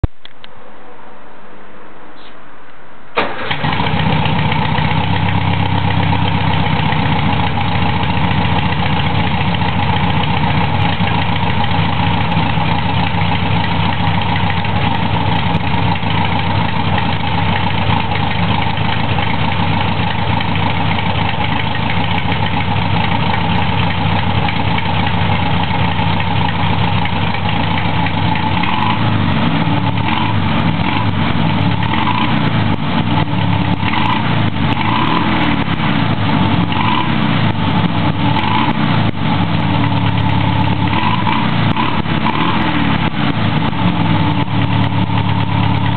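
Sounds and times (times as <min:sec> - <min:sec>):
car engine idling: 0:03.1 - 0:45.9
engine cranking: 0:03.2 - 0:45.9.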